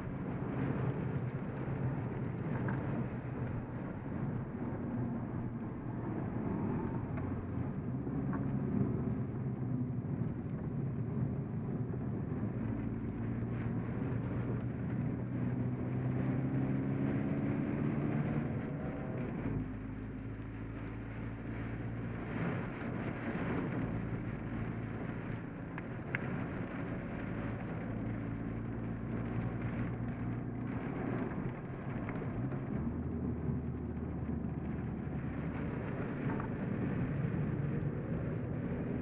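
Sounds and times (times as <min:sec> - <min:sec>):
diesel car engine from inside: 0:00.0 - 0:39.0
tyre and road noise: 0:00.0 - 0:39.0.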